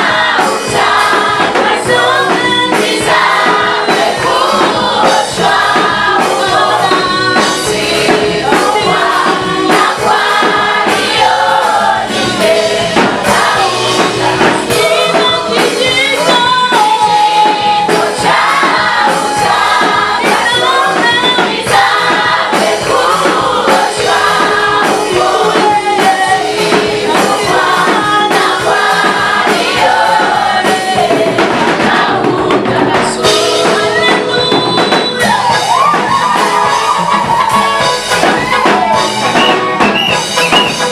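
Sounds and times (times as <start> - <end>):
choir singing with instruments: 0.0 - 40.9.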